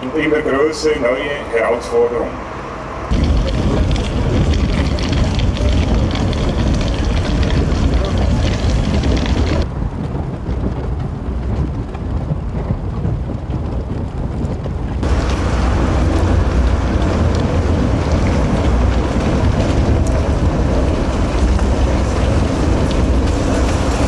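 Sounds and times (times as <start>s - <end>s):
tunnel boring machine rumbling and grinding: 0.0s - 24.0s.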